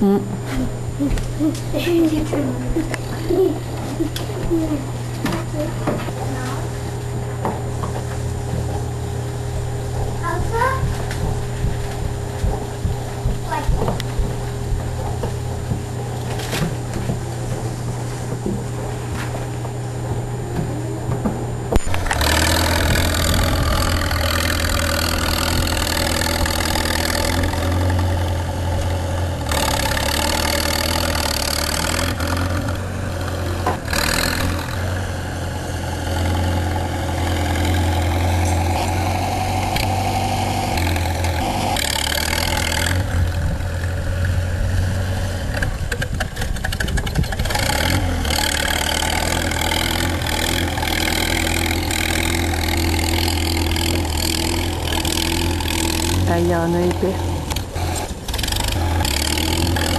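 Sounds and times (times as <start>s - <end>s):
engine humming: 0.0s - 59.9s
shifting noise: 0.0s - 59.9s.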